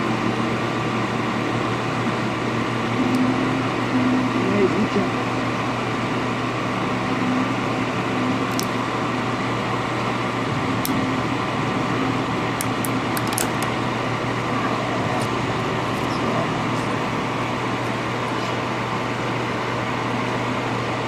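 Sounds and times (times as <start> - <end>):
hot air blower humming: 0.0 - 21.0.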